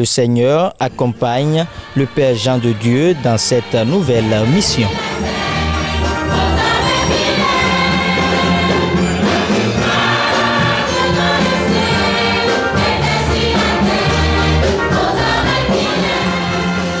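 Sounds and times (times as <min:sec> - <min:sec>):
instrumental accompaniment: 0:00.8 - 0:17.0
choir singing gospel hymn: 0:01.2 - 0:17.0.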